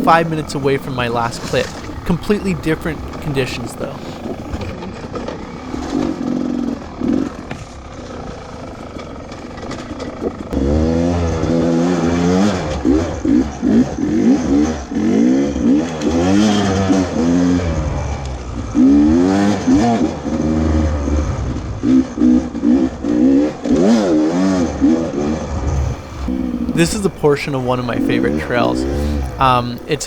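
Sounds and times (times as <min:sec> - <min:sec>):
motorcycle engine revving: 0:00.0 - 0:04.7, 0:10.6 - 0:30.0.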